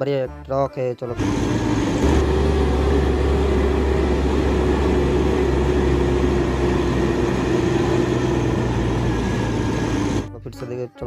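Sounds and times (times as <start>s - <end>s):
toy truck humming drone: 1.2s - 10.3s.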